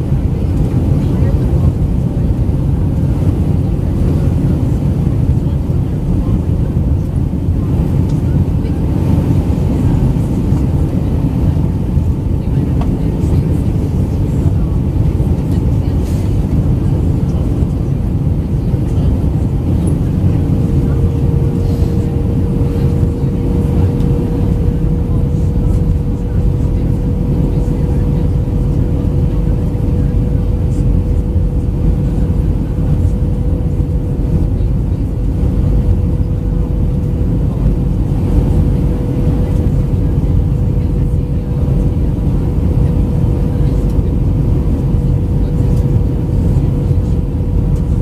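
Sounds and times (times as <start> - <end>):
airplane cabin roar: 0.0 - 48.0
steady hum: 0.0 - 48.0.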